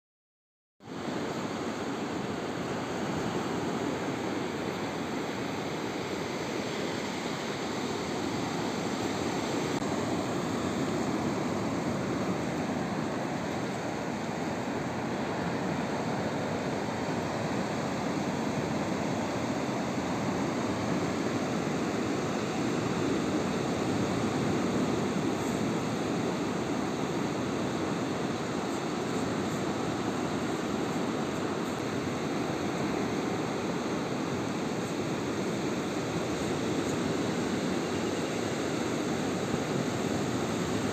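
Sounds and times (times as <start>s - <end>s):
sea surf on a beach: 0.8s - 40.9s.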